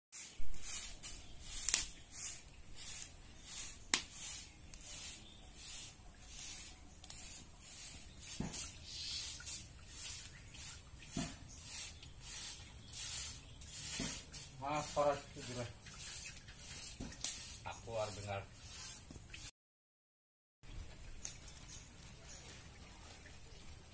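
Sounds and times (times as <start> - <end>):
broom sweeping concrete: 0.1 - 19.5.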